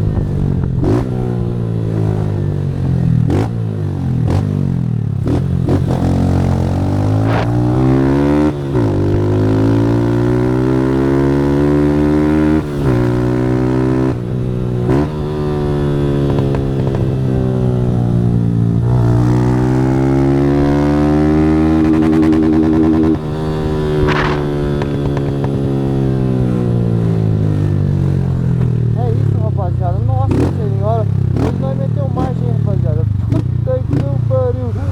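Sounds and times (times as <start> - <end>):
low wind rumble: 0.0 - 11.6, 12.2 - 20.9, 21.5 - 31.4
motorcycle engine accelerating: 0.0 - 34.9.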